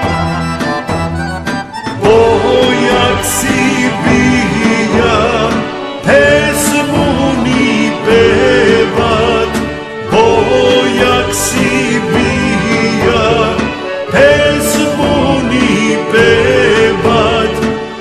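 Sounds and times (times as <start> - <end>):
accordion folk music: 0.0 - 18.0
person singing: 1.8 - 18.0.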